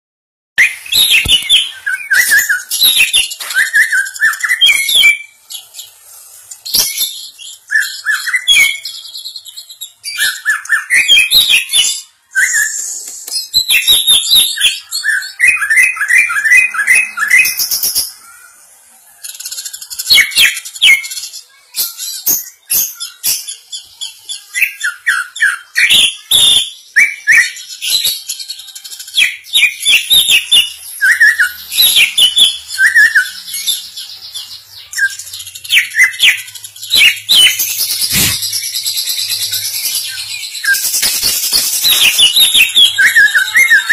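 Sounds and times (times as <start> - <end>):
bird singing chirps and whistles: 0.6 - 18.6, 19.2 - 43.9.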